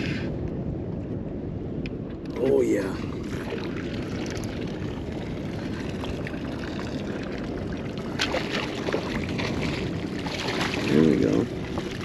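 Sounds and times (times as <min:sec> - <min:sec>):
steady low rumble: 0:00.0 - 0:12.0
water splashing and trickling: 0:02.3 - 0:12.0.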